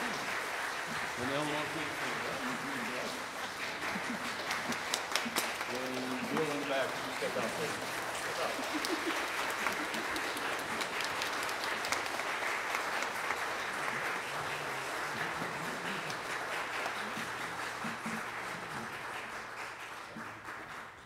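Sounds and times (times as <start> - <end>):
congregation clapping: 0.0 - 21.0.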